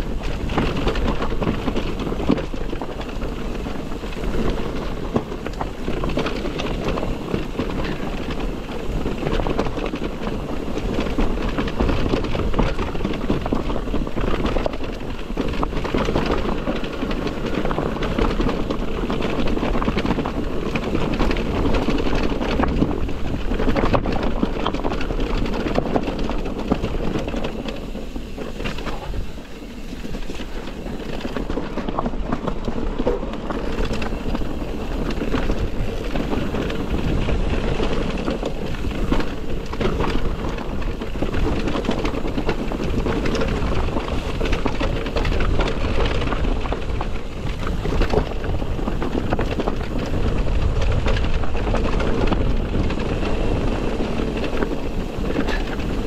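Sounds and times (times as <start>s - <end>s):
bike rattling over rough trail: 0.0s - 56.0s
wind rushing over microphone: 0.0s - 56.0s.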